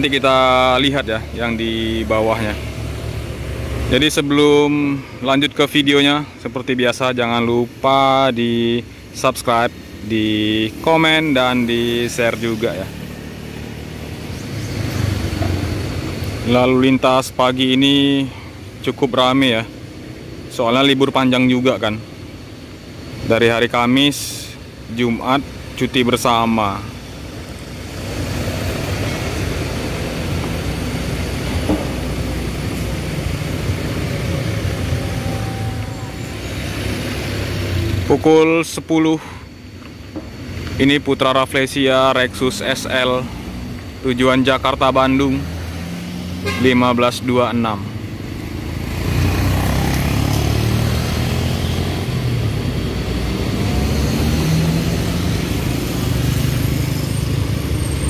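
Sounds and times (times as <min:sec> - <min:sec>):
cars driving slowly past: 0:00.0 - 0:58.0
coach diesel engine droning: 0:00.0 - 0:58.0
motorcycles passing: 0:00.0 - 0:58.0.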